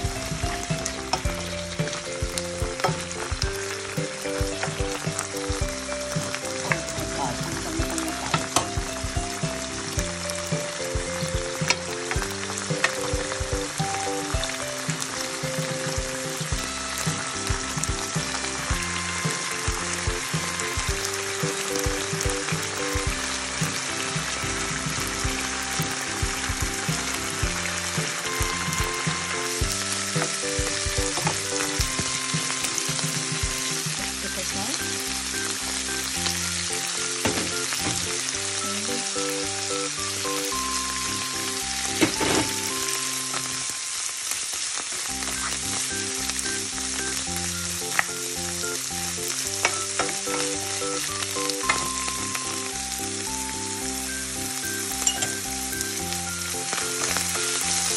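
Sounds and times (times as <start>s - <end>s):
vegetables sizzling in oil: 0.0s - 57.9s.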